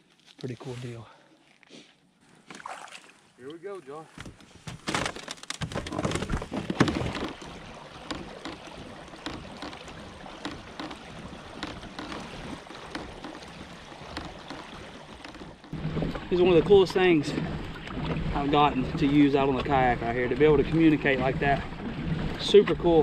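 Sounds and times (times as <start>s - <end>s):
water swishing along kayak hull: 2.2s - 23.0s.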